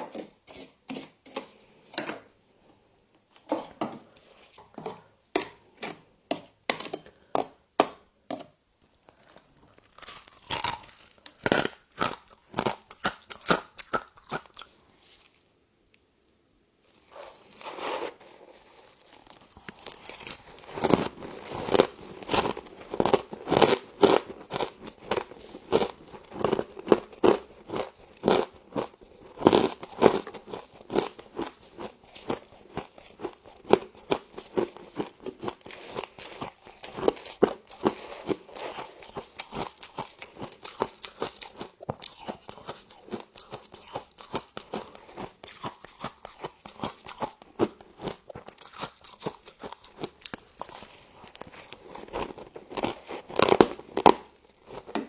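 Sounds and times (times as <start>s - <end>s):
crunching and chewing frost: 9.0s - 15.5s, 16.9s - 55.0s.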